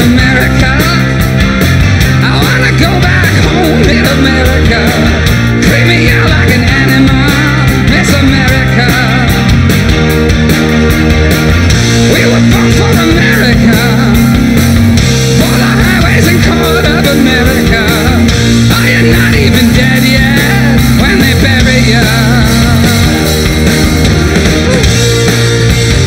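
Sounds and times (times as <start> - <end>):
rock band playing live: 0.0 - 26.0
wavering guitar lead line: 0.0 - 26.0.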